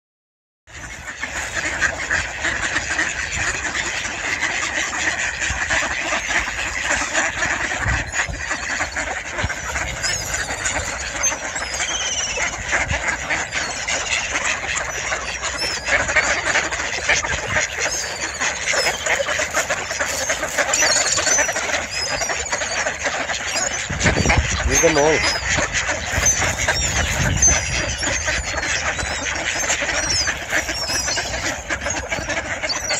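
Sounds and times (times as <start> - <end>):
ducks quacking: 0.7 - 32.9.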